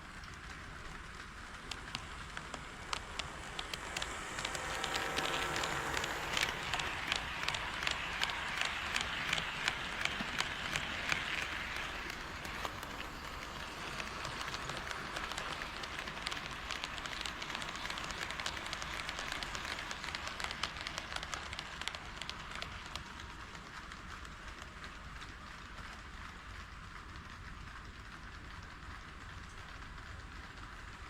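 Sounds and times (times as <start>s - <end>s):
model train wheels clicking: 0.0s - 31.0s.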